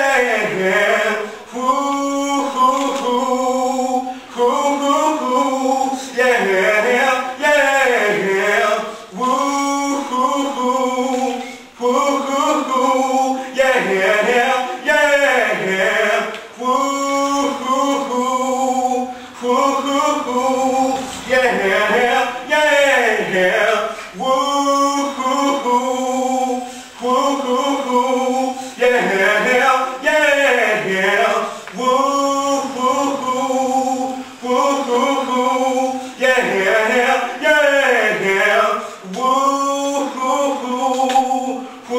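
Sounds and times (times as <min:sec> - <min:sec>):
man singing unaccompanied: 0:00.0 - 0:41.9.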